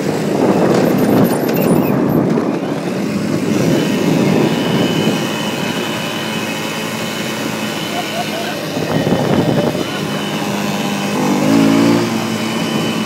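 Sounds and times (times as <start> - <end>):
quad bike engine rumbling: 0.0 - 13.0.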